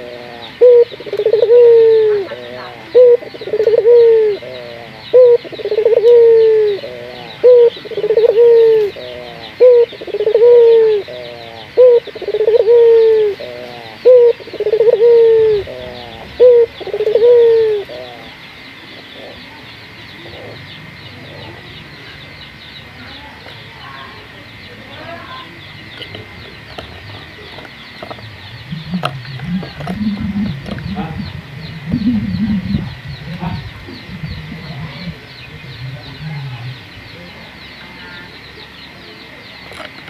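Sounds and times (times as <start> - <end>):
dove cooing: 0.0 - 22.5, 23.1 - 37.9.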